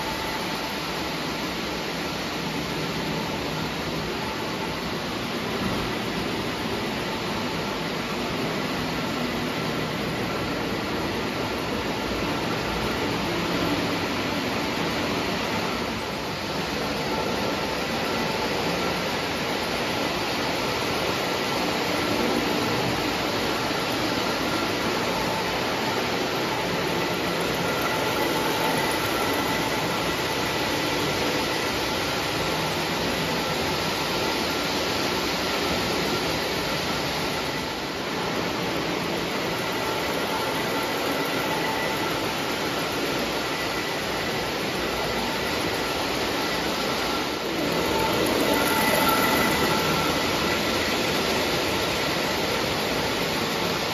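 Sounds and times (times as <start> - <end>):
faint steady whine: 0.0 - 53.9
model train wheels rumbling: 0.0 - 53.9.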